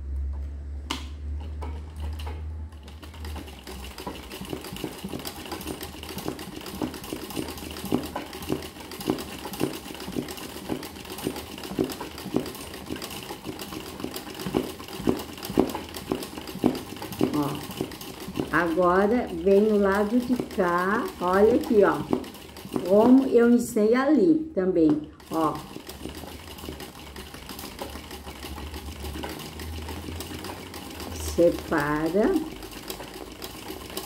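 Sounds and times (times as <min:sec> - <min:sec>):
sewing machine hum: 0:00.0 - 0:34.0.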